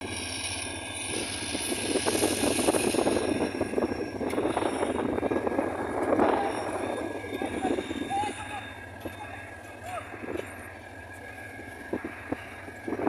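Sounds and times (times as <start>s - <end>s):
diesel locomotive drone: 0.0s - 13.0s
train coaches rattling: 1.0s - 13.0s.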